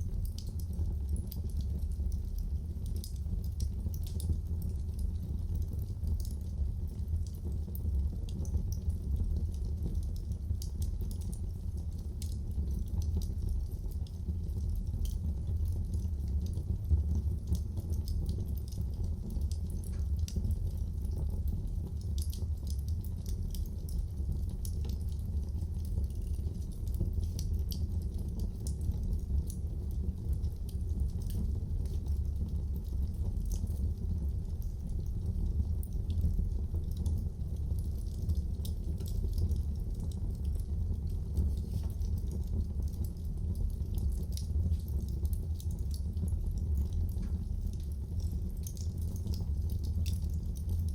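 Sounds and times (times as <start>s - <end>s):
fire crackles and pops: 0.0s - 50.9s
low rumble of flames: 0.0s - 50.9s.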